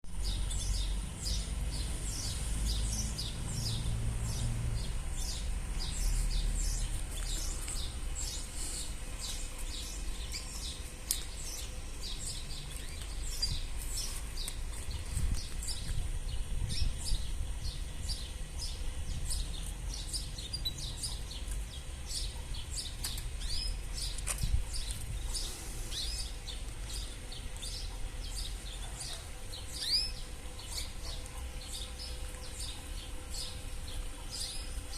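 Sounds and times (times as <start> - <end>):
canaries chirping: 0.1 - 34.9.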